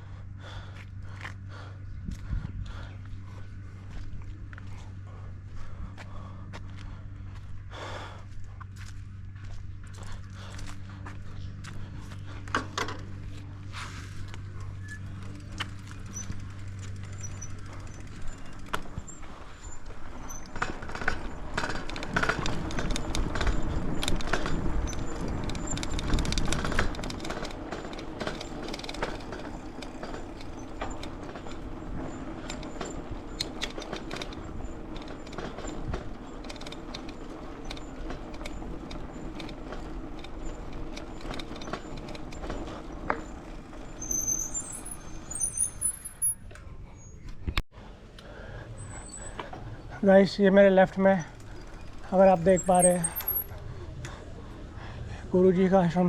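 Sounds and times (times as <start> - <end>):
steady low hum: 0.0 - 45.3
bike rattling over rough ground: 0.5 - 47.5, 48.3 - 56.0.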